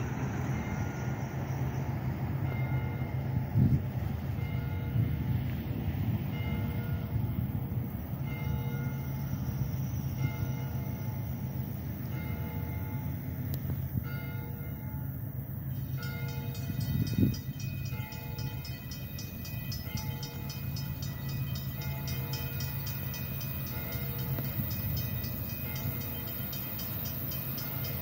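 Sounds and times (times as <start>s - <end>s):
freight train rumbling past: 0.0s - 28.0s
railroad crossing bell ringing: 0.0s - 28.0s.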